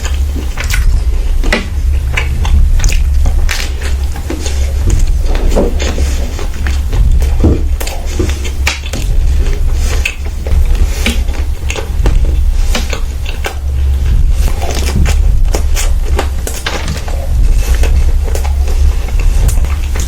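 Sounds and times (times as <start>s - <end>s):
chewing smacks: 0.0s - 20.0s
steady low hum: 0.0s - 20.0s.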